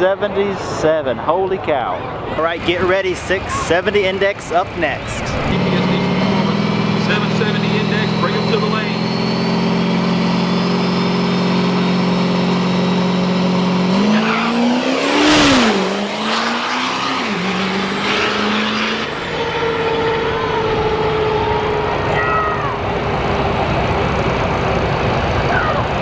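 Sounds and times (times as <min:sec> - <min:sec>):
diesel truck engines revving: 0:02.2 - 0:26.0.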